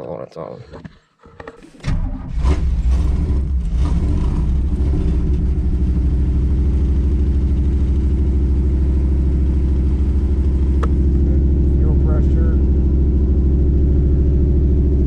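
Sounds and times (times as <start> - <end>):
lopey car engine running: 1.8 - 15.0.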